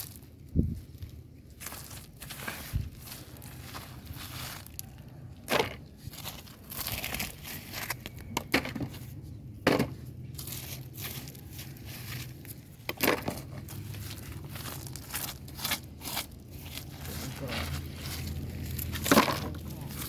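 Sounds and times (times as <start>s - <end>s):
rustling crinkling handling noise: 0.0s - 20.0s.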